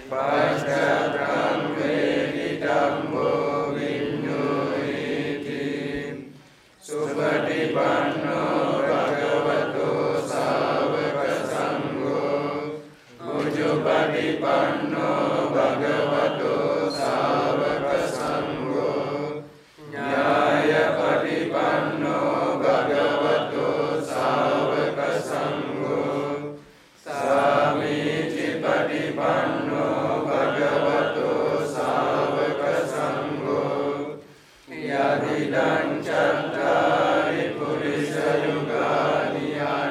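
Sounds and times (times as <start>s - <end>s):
group chanting in unison: 0.0s - 39.9s.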